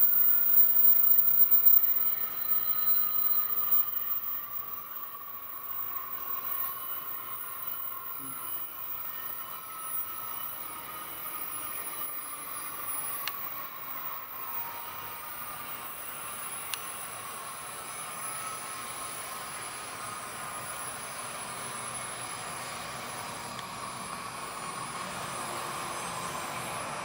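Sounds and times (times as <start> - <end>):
train whine pulling into station: 0.0 - 27.0.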